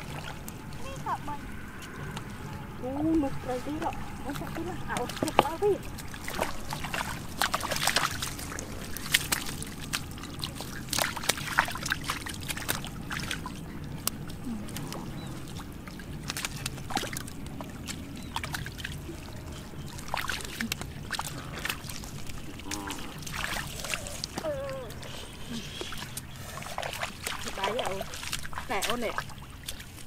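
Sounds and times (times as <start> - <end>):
muddy water sloshing: 0.0 - 30.0
sharp splashes and slaps: 3.8 - 19.0, 19.9 - 24.6, 25.8 - 30.0.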